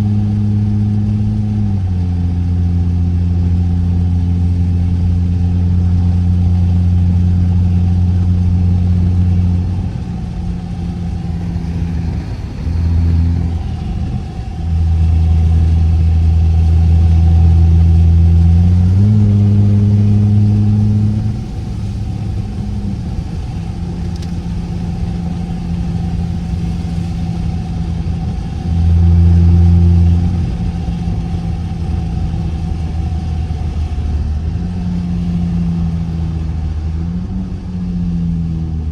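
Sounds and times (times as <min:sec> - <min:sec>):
car exhaust droning: 0:00.0 - 0:38.9.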